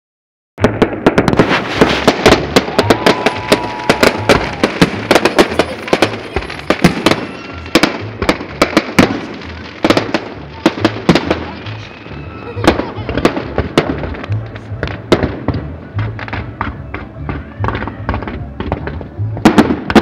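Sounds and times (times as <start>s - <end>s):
fireworks cracking and booming: 0.6s - 20.0s.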